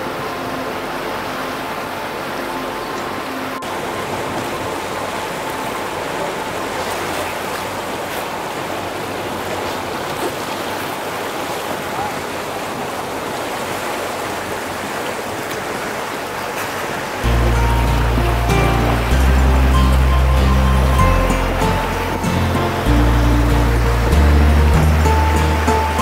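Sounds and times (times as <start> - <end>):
water and wind rushing: 0.0 - 26.0.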